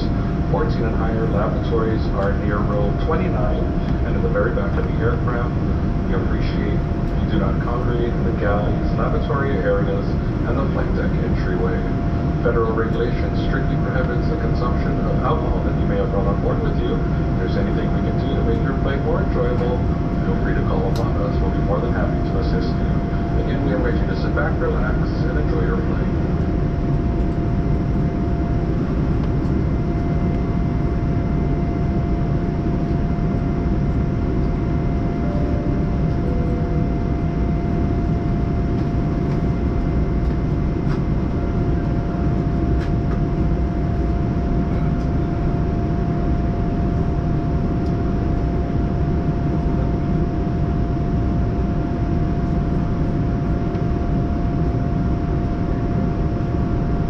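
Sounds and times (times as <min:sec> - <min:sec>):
airliner cabin rumble: 0:00.0 - 0:57.0
faint constant whine: 0:00.0 - 0:57.0.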